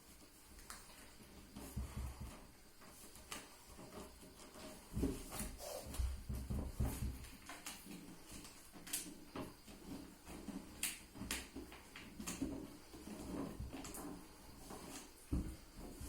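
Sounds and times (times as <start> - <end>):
light sharp clicks and knocks: 0.5 - 16.0.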